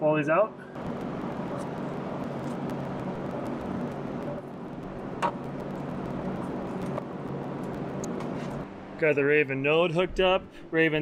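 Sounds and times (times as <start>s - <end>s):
engine-like hum: 0.6s - 10.7s.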